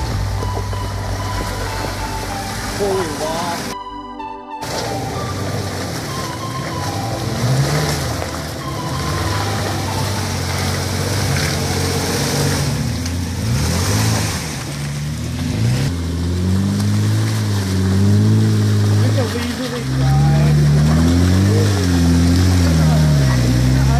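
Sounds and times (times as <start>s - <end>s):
engine revving: 0.0s - 3.8s, 4.5s - 23.9s
steady engine note: 0.0s - 23.9s.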